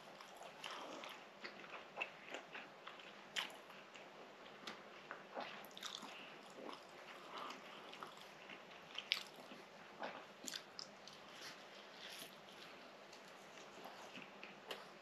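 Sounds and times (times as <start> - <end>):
chewing soft pastry: 0.0 - 15.0.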